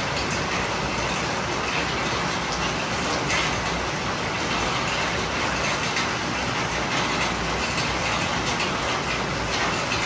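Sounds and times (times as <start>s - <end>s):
rain splashing on hard surfaces: 0.0s - 10.0s.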